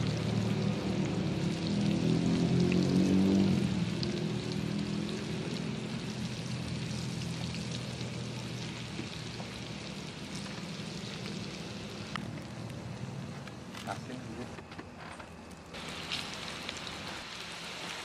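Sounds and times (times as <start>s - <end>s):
food deep-frying in hot oil: 0.0s - 14.4s, 15.7s - 18.0s.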